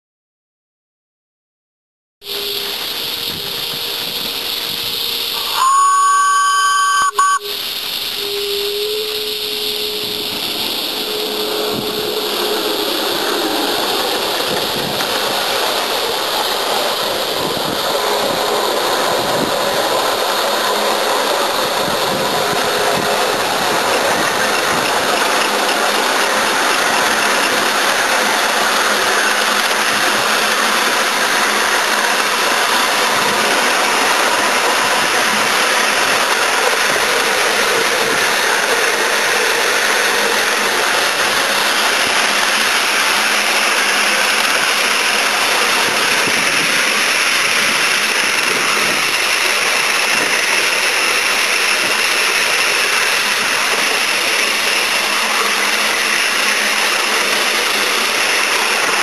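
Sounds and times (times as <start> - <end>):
steam hissing: 2.2 - 59.0.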